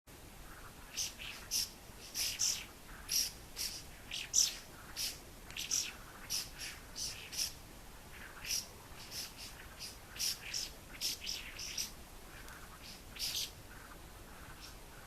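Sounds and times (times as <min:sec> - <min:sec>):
bird calling sharp high calls: 0:00.4 - 0:15.0.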